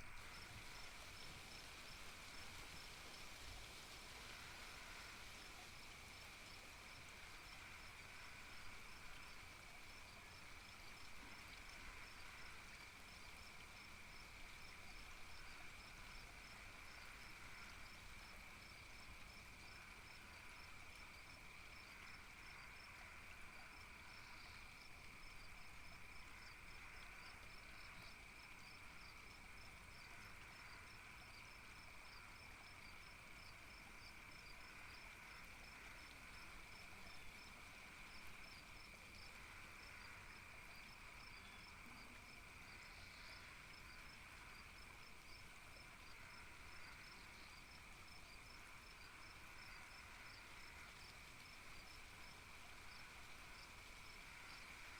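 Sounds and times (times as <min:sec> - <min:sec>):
crickets chirping: 0:00.0 - 0:54.9
high insect hum: 0:00.0 - 0:54.9
soft background hiss: 0:00.0 - 0:54.9.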